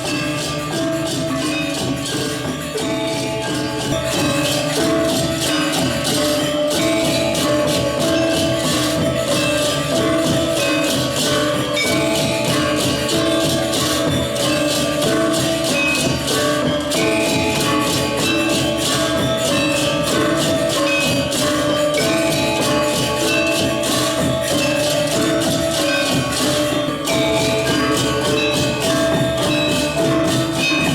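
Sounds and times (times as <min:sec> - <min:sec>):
gamelan metal keys ringing: 0:00.0 - 0:30.9.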